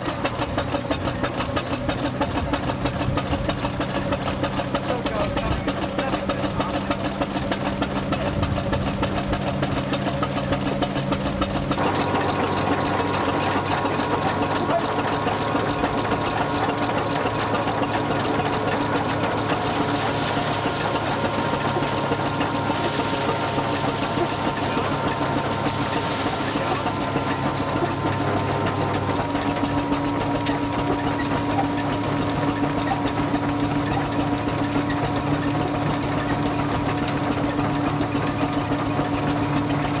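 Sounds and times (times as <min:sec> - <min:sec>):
tractor engine clattering: 0:00.0 - 0:40.0.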